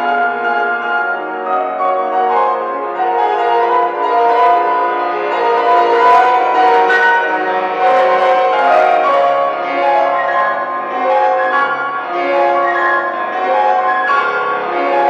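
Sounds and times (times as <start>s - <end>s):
classical concert music: 0.0s - 15.0s.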